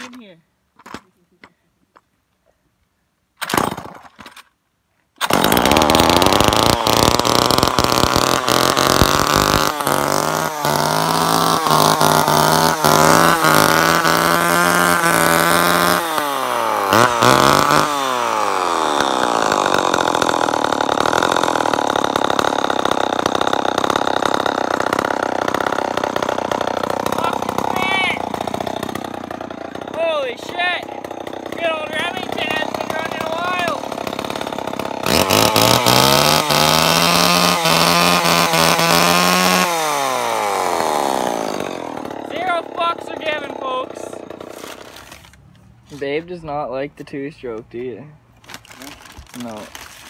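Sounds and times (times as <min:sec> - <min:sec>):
chainsaw engine running: 0:05.2 - 0:46.1, 0:48.4 - 0:50.0.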